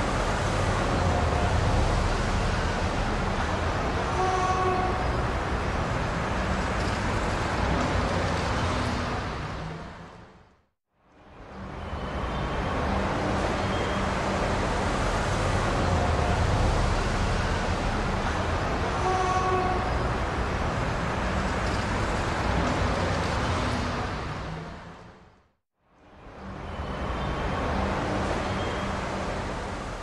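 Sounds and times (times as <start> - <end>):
rumbling vehicle noise: 0.0 - 10.7, 11.3 - 25.4.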